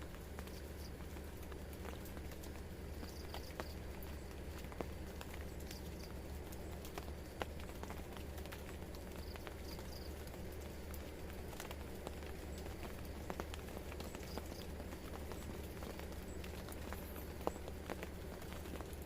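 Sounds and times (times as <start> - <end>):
drips tapping on plastic tarp: 0.0 - 19.0
steady rain hiss: 0.0 - 19.0.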